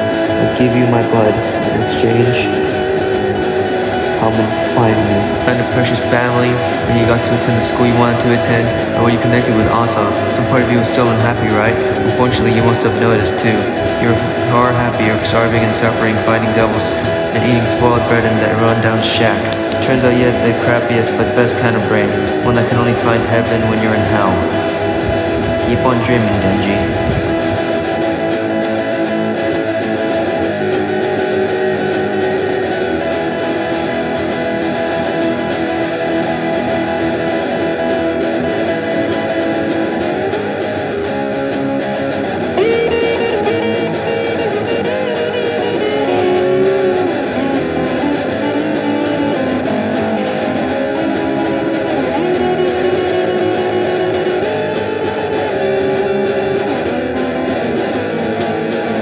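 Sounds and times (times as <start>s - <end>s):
guitar background music: 0.0s - 59.0s.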